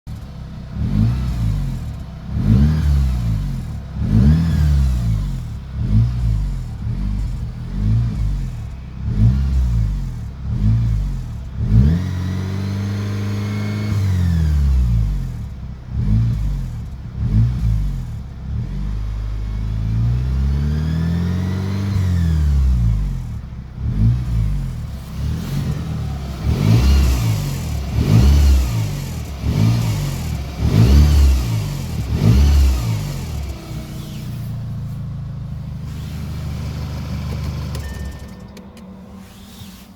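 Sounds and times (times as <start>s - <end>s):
car engine revving: 0.1s - 38.0s.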